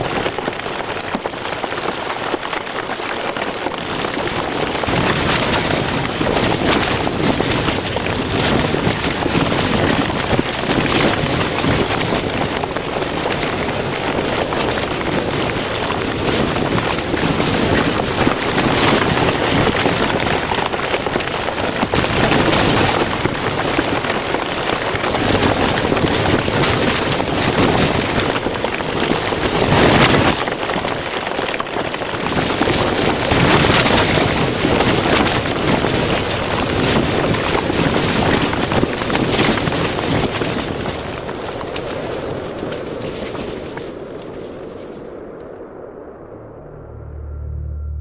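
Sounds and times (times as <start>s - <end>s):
rain and wind on tent fabric: 0.0s - 46.3s.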